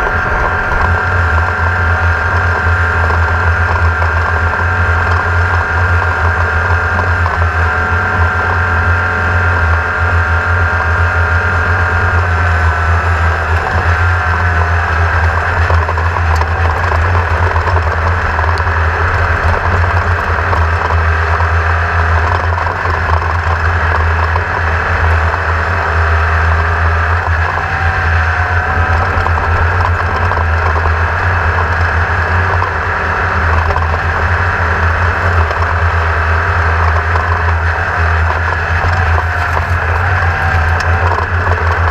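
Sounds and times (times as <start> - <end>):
machine humming with high whine: 0.0 - 41.9.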